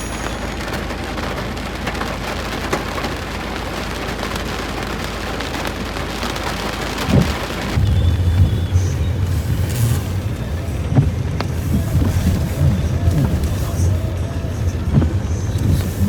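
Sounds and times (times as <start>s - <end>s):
drops ticking: 0.0s - 16.0s
heavy rain: 0.0s - 16.0s.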